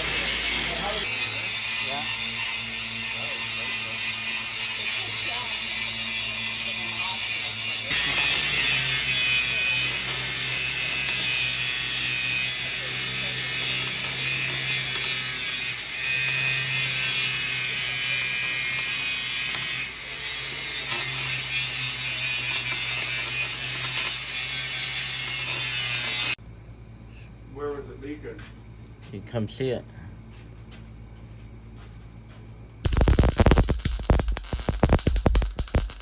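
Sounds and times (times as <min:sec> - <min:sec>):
power tool running with hiss: 0:00.0 - 0:26.4, 0:32.9 - 0:36.0.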